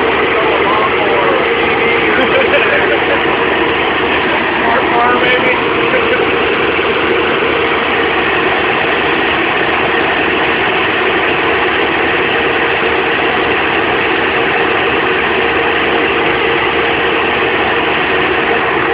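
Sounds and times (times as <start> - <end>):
engine running steadily: 0.0 - 18.9.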